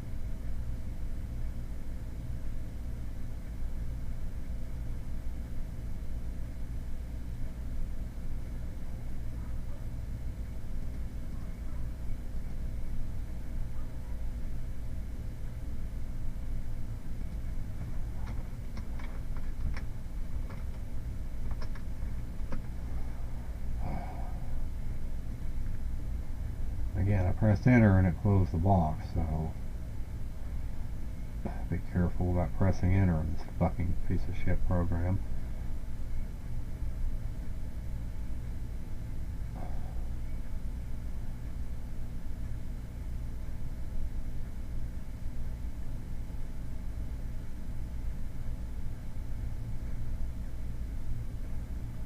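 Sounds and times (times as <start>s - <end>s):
faint constant hum: 0.0s - 52.0s
low background rumble: 0.0s - 52.0s.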